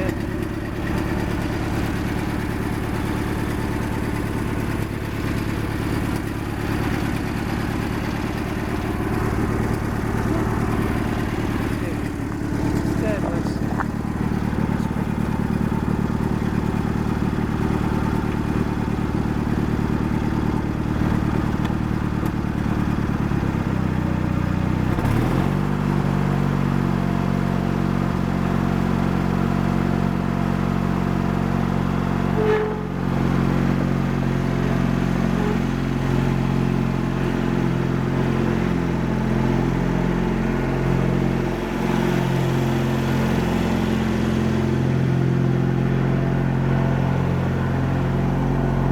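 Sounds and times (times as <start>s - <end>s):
garden tractor engine running: 0.0s - 48.9s.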